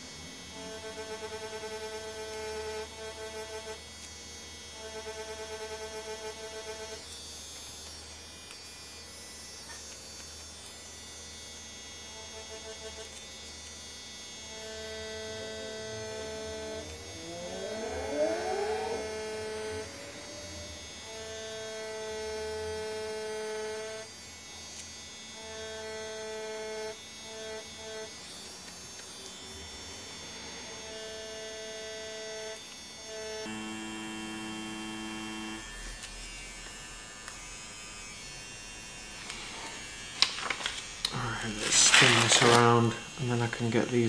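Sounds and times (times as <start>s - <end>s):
tattoo machine humming: 0.0s - 44.0s.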